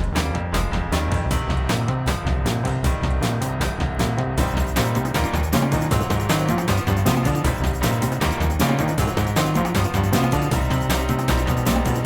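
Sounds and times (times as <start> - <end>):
music with driving beat and bass: 0.0 - 12.0.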